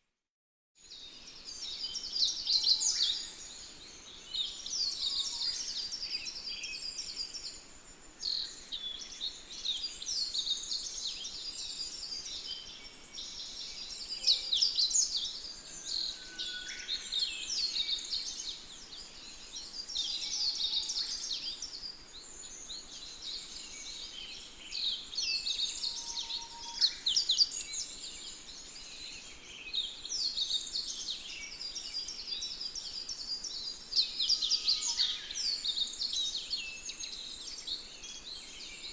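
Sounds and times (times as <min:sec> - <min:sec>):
birds chirping and trilling: 0:01.4 - 0:38.9.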